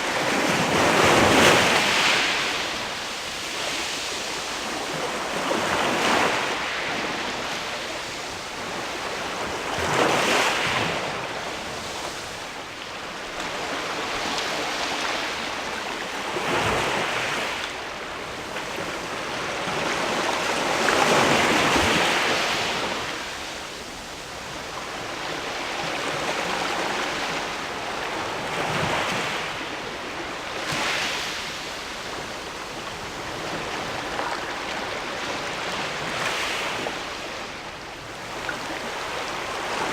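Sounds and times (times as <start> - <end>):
sea waves on rocky shore: 0.0 - 39.9.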